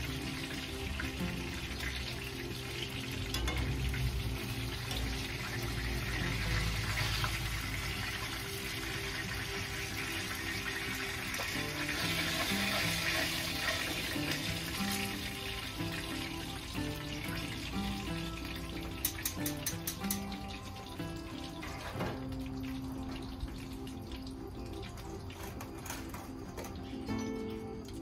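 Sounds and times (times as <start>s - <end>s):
background music: 0.0s - 28.0s
chicken frying in oil: 0.0s - 28.0s.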